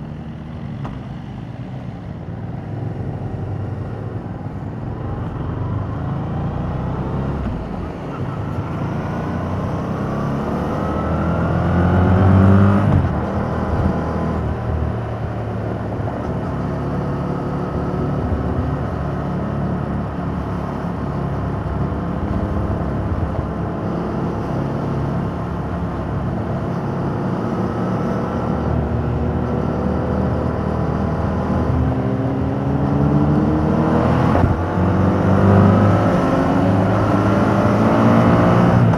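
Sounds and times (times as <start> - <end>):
motorcycle engine accelerating: 2.6 - 38.9.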